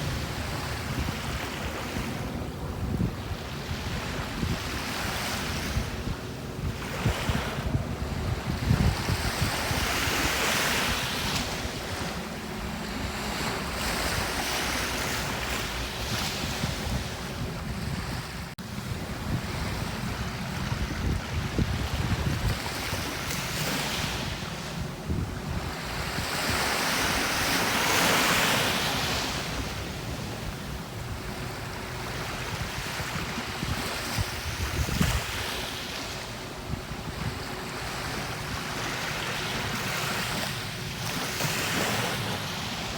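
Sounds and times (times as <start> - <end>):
sea waves washing on beach: 0.0 - 42.9
wind buffeting microphone: 0.0 - 42.9.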